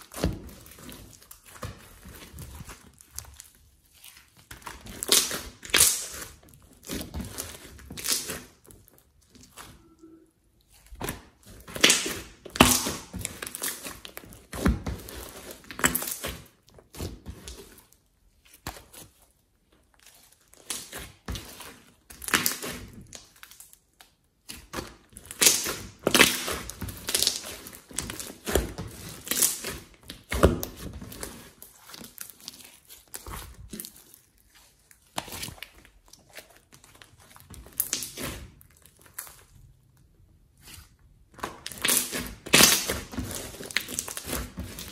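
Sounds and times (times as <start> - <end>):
slime squelching by hand: 0.0 - 44.9.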